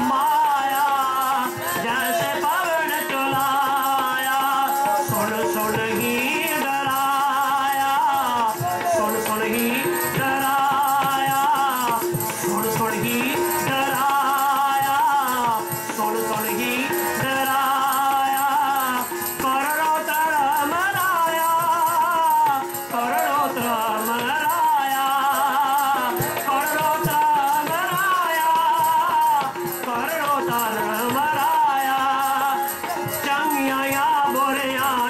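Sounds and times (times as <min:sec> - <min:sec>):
harmonium chords: 0:00.0 - 0:35.0
voices singing: 0:00.0 - 0:35.0.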